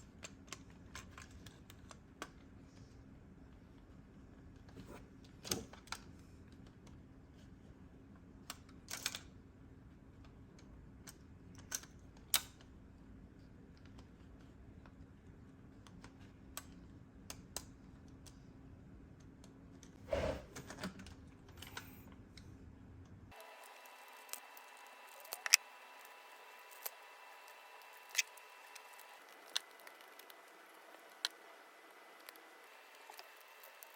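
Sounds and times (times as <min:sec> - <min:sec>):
faint steady hum: 0:06.0 - 0:33.9.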